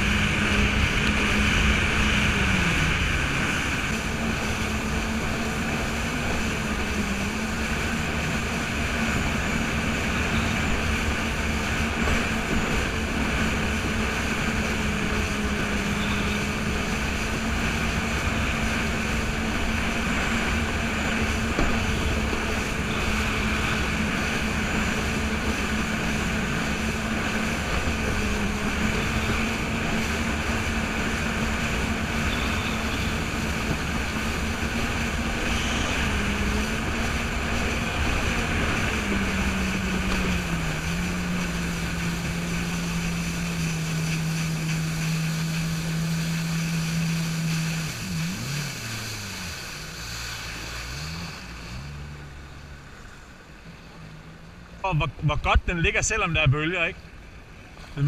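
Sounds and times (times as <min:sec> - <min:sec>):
jet ski engine running: 0:00.0 - 0:58.0
rush of water: 0:00.0 - 0:58.0.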